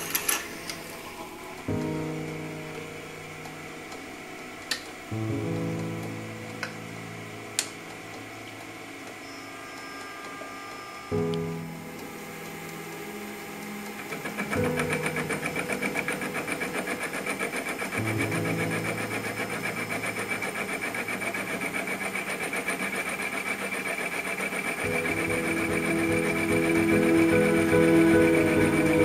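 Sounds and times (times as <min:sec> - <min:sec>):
milling machine cutting metal: 0:00.0 - 0:29.0.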